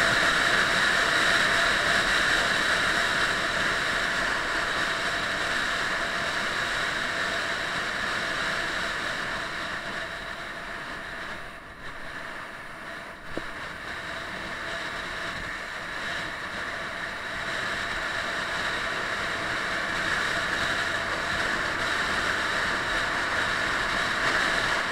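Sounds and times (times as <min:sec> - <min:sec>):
wind and road noise: 0:00.0 - 0:24.9.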